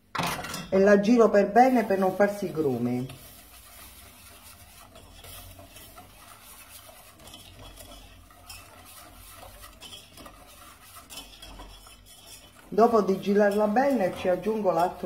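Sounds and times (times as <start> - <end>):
utensil scraping a saucepan: 0.2 - 15.0.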